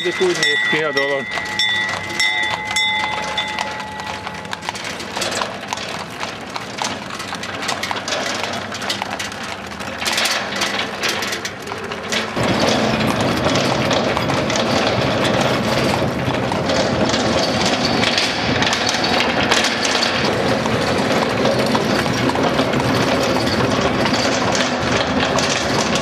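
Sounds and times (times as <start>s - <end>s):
carriage knocks and rattles: 0.0s - 26.0s
carriage wheels rolling rumble: 0.0s - 26.0s
horse hooves on asphalt: 0.0s - 26.0s.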